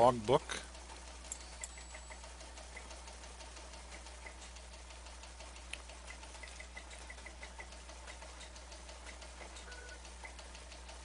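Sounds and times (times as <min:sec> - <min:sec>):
light irregular ticking: 0:00.0 - 0:11.0
steady low hum: 0:00.0 - 0:11.0.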